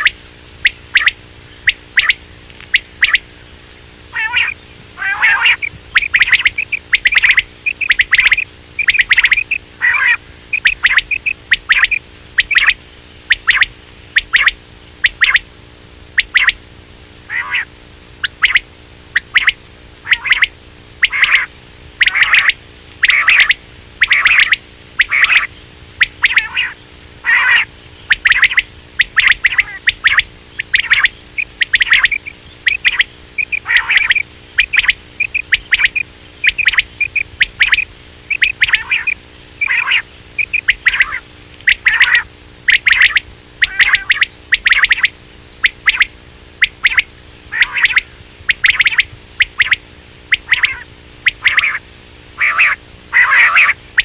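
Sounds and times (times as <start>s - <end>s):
quail calling: 0.0s - 15.5s, 16.1s - 16.6s, 17.2s - 54.0s
faint steady hum: 0.0s - 54.0s.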